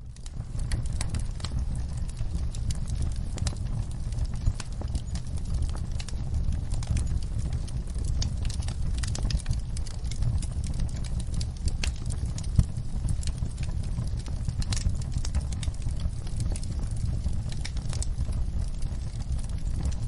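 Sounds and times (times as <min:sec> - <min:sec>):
fire crackling and popping: 0:00.0 - 0:20.0
low fire rumble: 0:00.0 - 0:20.0.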